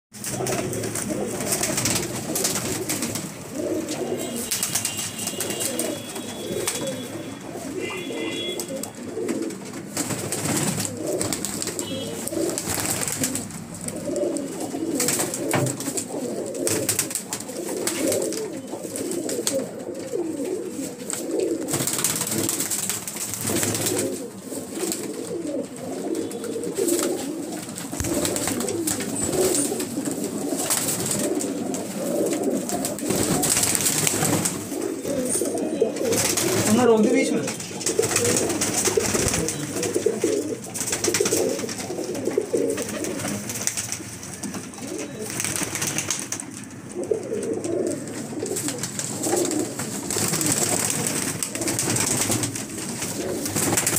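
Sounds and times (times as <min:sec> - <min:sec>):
wings flapping: 0:00.2 - 0:07.1, 0:08.6 - 0:53.9
pigeons cooing: 0:00.2 - 0:53.9.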